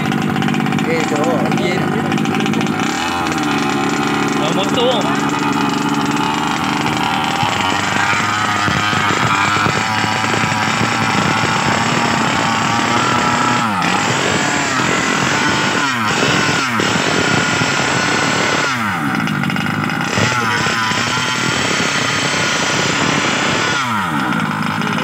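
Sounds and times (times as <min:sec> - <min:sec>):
small two-stroke engine revving: 0:00.0 - 0:25.0.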